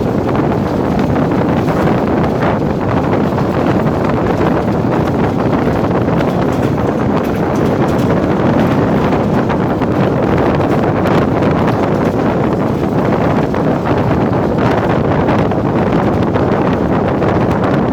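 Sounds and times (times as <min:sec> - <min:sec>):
train rumbling on track: 0:00.0 - 0:17.9
wind buffeting microphone: 0:00.0 - 0:17.9.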